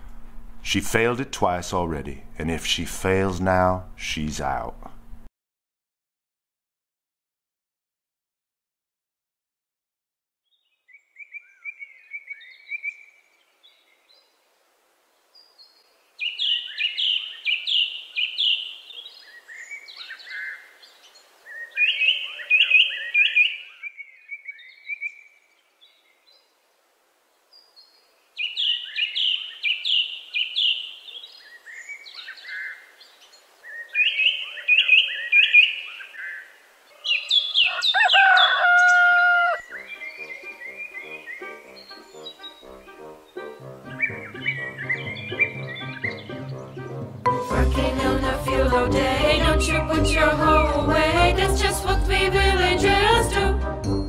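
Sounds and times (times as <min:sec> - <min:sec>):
songbird chirps and trills: 0:10.5 - 0:54.0.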